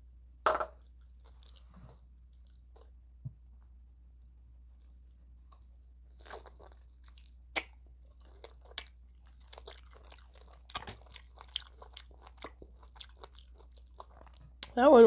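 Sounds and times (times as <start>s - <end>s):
chewing crispy fried chicken: 0.8s - 2.9s, 4.7s - 14.8s.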